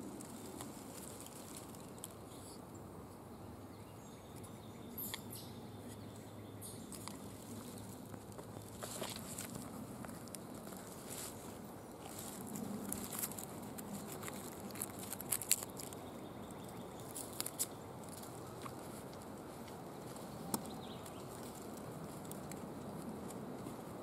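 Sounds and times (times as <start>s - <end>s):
sharp crackles: 0.0s - 2.6s, 6.9s - 23.9s.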